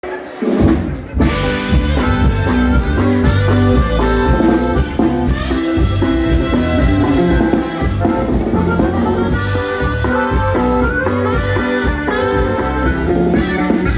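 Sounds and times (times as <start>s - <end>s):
band with saxophone playing: 0.0s - 13.9s.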